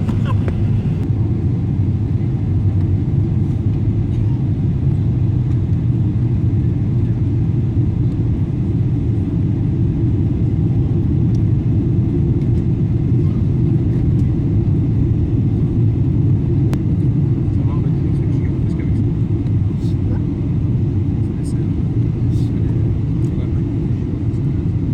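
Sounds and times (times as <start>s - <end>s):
airplane engines rumbling: 0.0s - 24.9s.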